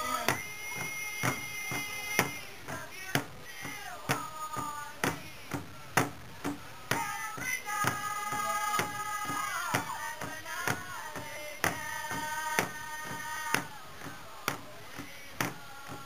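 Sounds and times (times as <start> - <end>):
large drum steady beat: 0.0 - 16.0
women singing in high voices: 0.0 - 16.0.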